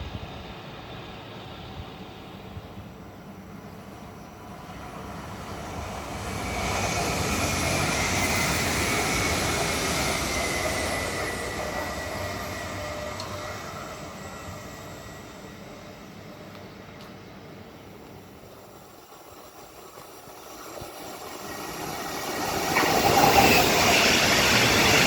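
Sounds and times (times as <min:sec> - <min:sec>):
train passing: 0:00.0 - 0:25.0.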